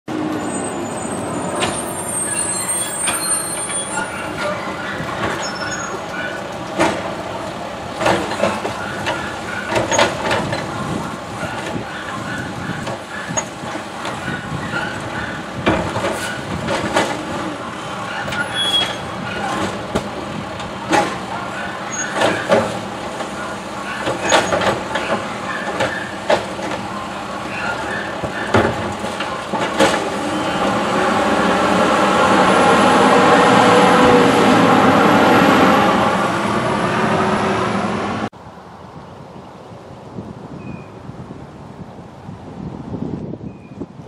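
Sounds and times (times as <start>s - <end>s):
garbage truck engine and hydraulics: 0.1s - 39.0s.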